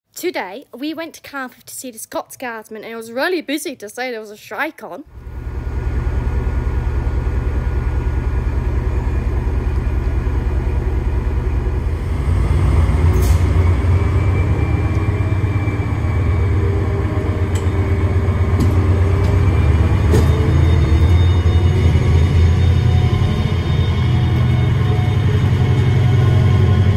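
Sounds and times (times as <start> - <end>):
diesel locomotive engine rumbling: 5.1 - 26.9.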